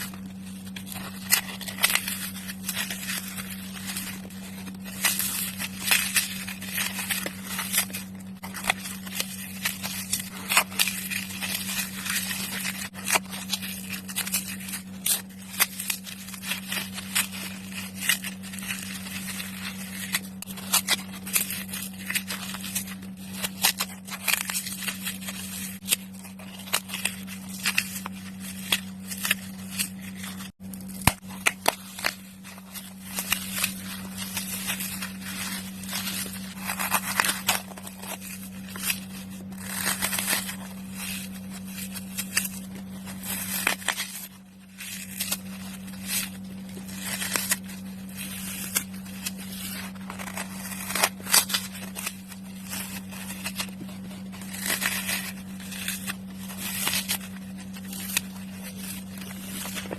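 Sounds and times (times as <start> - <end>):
floral foam crunching: 0.0 - 59.9
low hum: 0.0 - 59.9.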